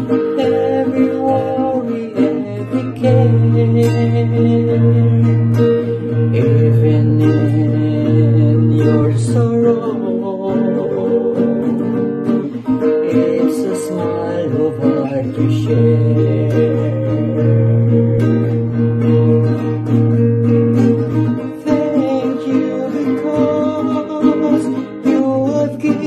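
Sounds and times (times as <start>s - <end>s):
man singing: 0.0s - 26.0s
strummed acoustic guitar: 0.0s - 26.0s.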